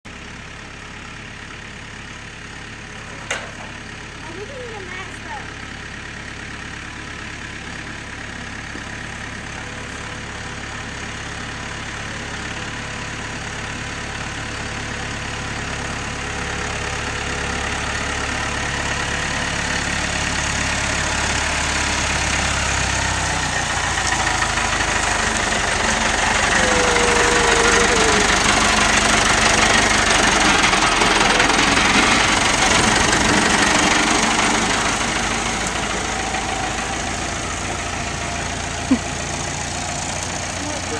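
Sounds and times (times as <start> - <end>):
tractor engine running: 0.1 - 40.9.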